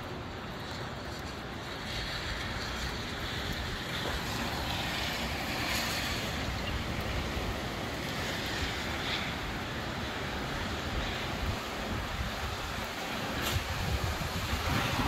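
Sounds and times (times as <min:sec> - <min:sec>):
gusty wind on microphone: 0:01.4 - 0:15.0.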